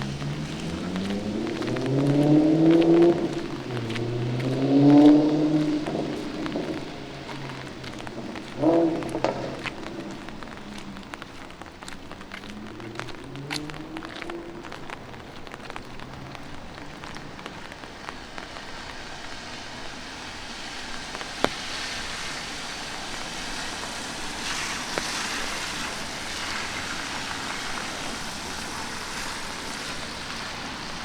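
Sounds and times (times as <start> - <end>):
city background noise: 0.0 - 31.0
light rain hissing: 0.0 - 31.0.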